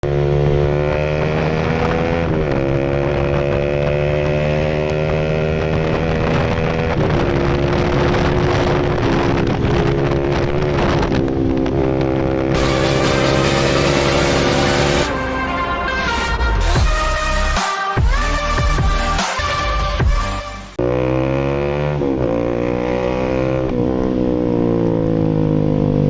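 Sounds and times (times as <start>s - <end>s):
motorcycle engine running: 0.0s - 15.9s, 20.8s - 26.0s.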